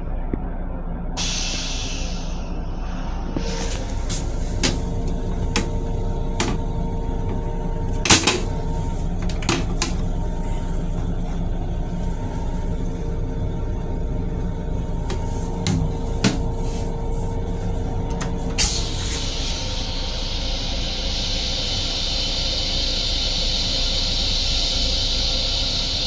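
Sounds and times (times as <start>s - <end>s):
electric railcar rumble and hum: 0.0s - 26.0s.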